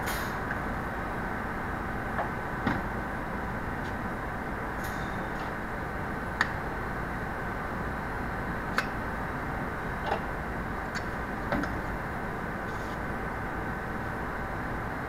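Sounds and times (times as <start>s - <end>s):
factory floor background noise: 0.0s - 15.0s.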